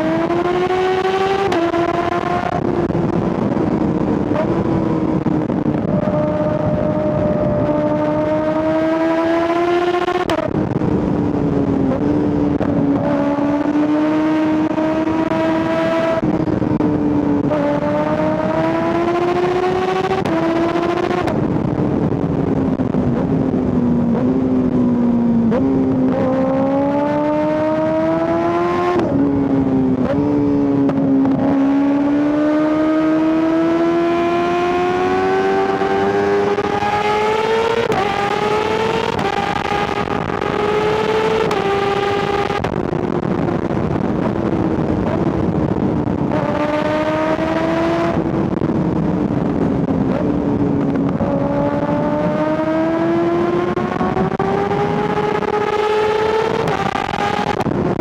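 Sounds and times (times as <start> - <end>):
motorcycle engine revving through gears: 0.0 - 58.0.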